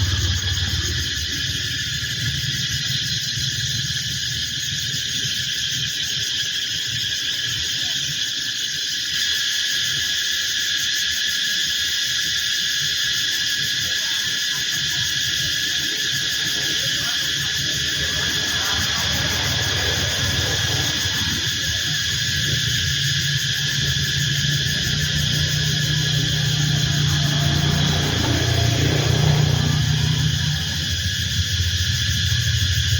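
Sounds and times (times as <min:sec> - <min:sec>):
cicadas buzzing: 0:00.0 - 0:32.9.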